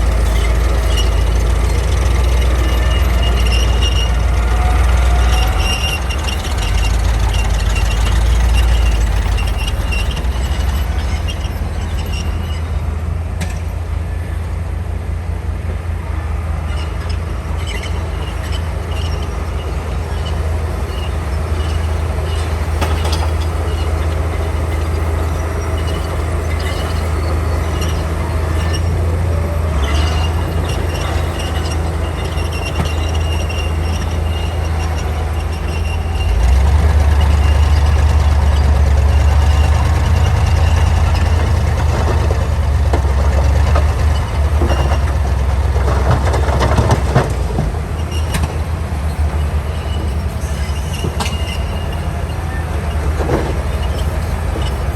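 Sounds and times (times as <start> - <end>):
bulldozer engine under load: 0.0 - 54.9
steel tracks squealing and clanking: 0.0 - 54.9.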